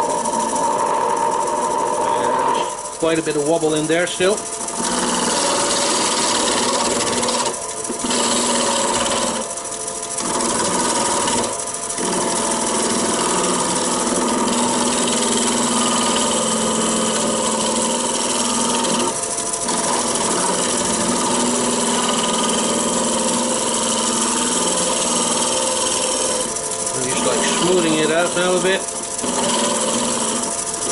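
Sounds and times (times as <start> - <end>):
gouge shaving wood on lathe: 0.0 - 30.9
lathe hum: 0.0 - 30.9.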